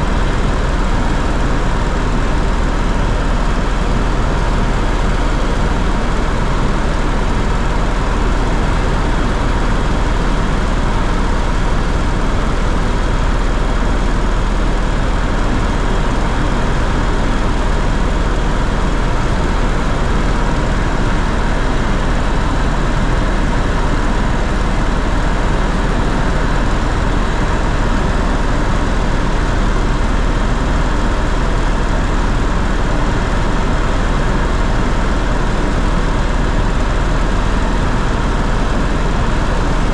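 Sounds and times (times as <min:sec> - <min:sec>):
aircraft cabin engine and airflow: 0:00.0 - 0:39.9.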